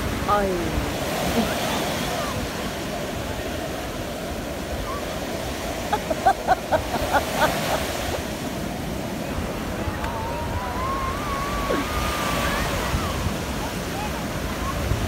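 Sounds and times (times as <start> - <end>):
sea surf breaking: 0.0 - 15.0.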